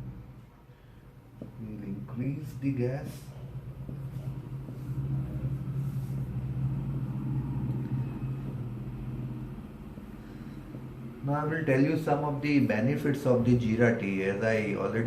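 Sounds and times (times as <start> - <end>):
gas burner flame rumble: 1.2 - 15.0.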